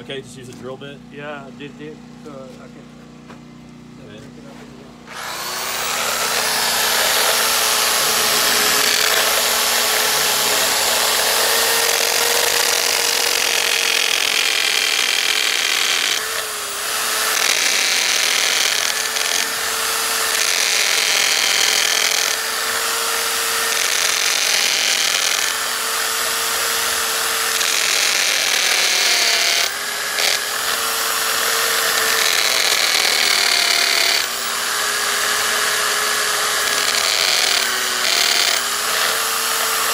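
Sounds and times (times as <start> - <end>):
power drill boring into wall: 5.0 - 39.9.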